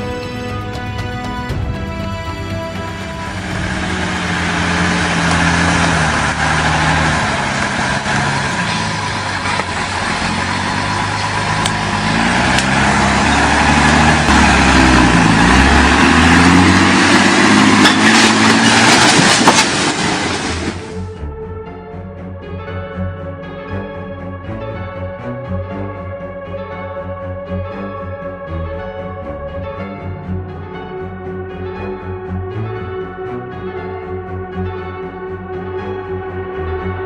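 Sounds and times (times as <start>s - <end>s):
truck engine and road noise: 0.0s - 37.0s.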